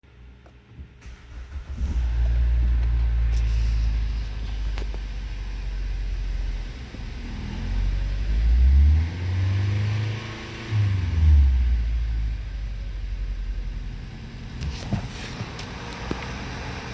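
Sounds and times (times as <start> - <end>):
car engine idling and revving: 0.9 - 16.9.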